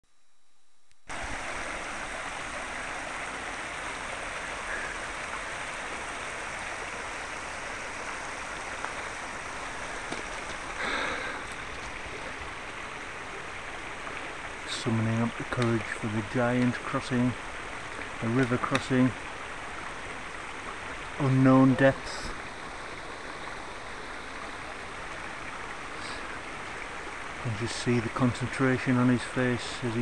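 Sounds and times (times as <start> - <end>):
river rushing: 1.1 - 30.0.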